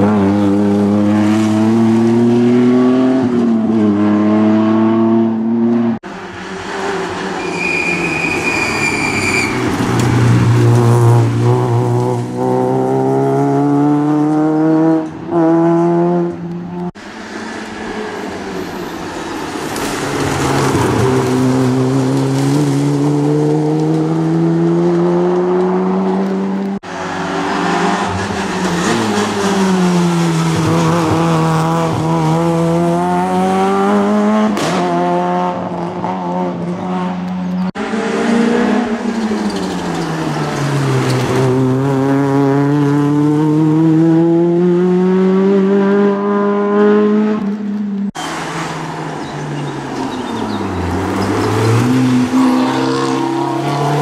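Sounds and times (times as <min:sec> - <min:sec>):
rally car engines at full load: 0:00.0 - 0:54.0.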